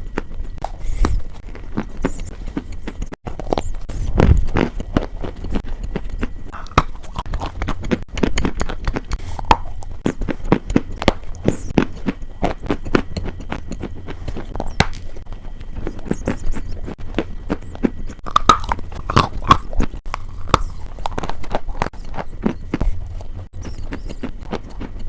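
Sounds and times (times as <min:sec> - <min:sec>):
crunchy food being chewed: 0:00.0 - 0:25.0
steady low hum: 0:00.0 - 0:25.0.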